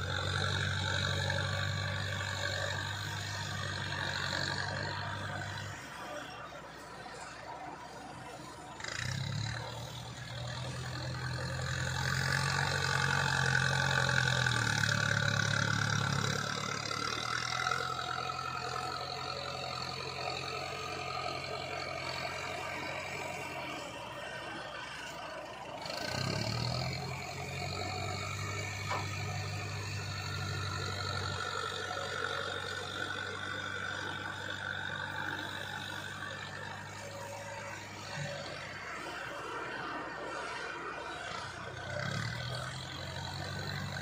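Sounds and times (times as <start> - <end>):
excavator diesel engine under load: 0.0 - 44.0.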